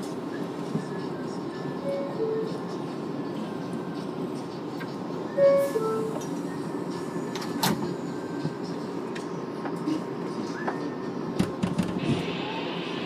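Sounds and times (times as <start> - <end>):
subway train wheels rumbling on rail: 0.0 - 13.0.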